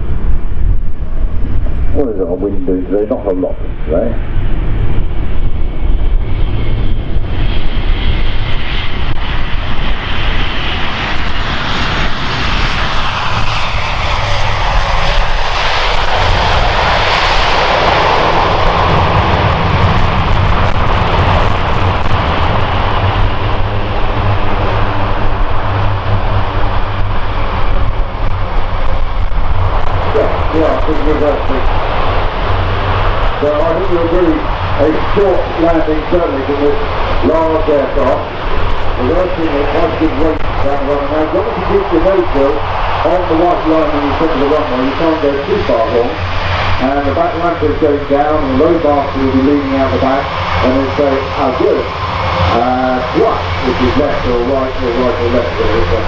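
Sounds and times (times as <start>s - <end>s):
turboprop engines in reverse thrust: 0.0s - 56.0s.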